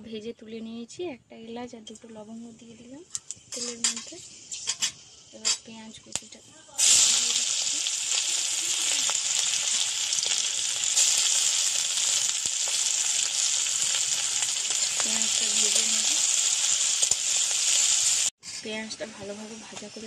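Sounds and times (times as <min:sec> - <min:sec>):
onions sizzling in hot oil: 0:03.1 - 0:18.4, 0:19.0 - 0:20.0.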